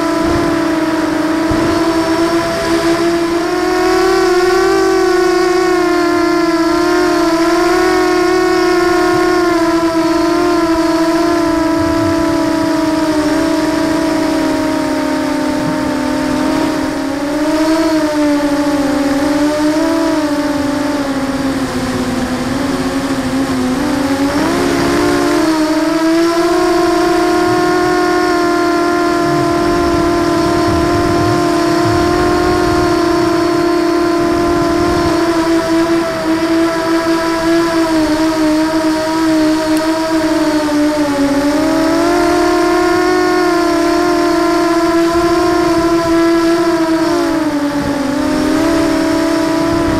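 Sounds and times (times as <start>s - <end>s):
drone motors whining: 0.0s - 49.9s.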